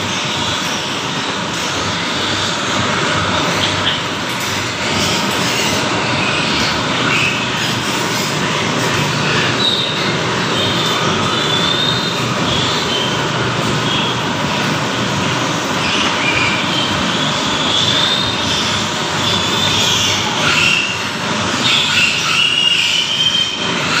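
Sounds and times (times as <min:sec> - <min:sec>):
steady rushing noise: 0:00.0 - 0:21.6
piglets squealing: 0:03.4 - 0:14.8, 0:15.6 - 0:24.0.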